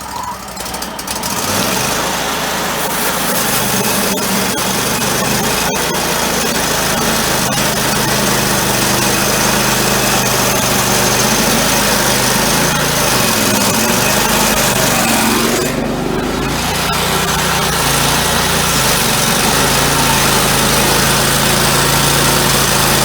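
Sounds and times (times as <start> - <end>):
engine-driven sawmill milling log: 0.0 - 23.0.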